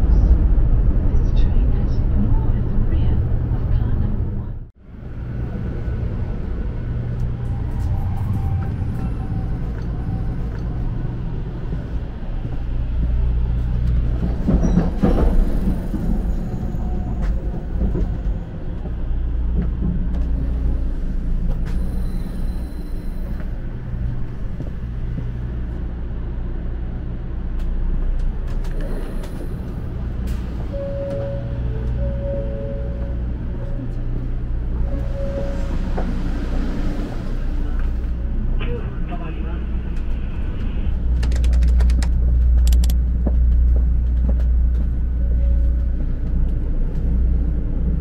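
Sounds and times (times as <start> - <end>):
train rumble and hum from inside: 0.0 - 48.0.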